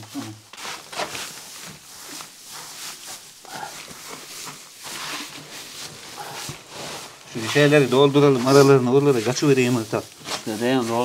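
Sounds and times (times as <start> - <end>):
dry straw rustling and crackling: 0.0 - 11.0.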